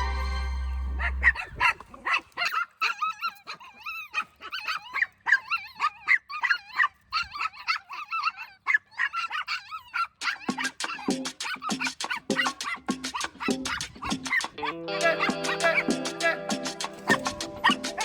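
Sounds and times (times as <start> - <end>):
dogs whining and yipping: 0.0 - 18.0.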